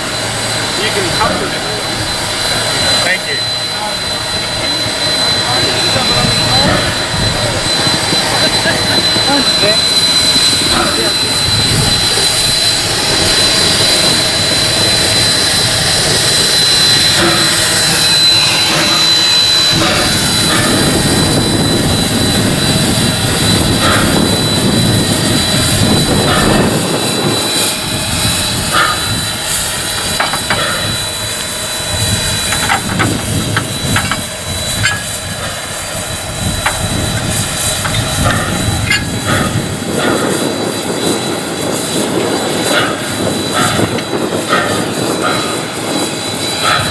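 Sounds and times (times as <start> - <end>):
high whistle-like tone: 0.0 - 46.9
steam locomotive roar and hiss: 0.0 - 46.9.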